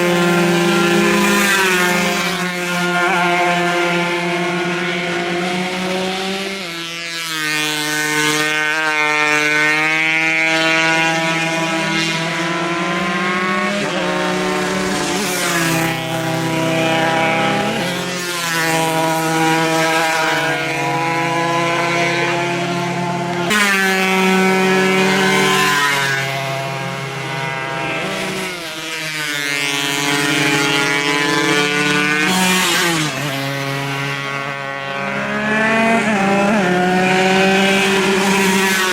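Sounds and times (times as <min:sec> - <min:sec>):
two-stroke motorcycle engines revving: 0:00.0 - 0:38.9.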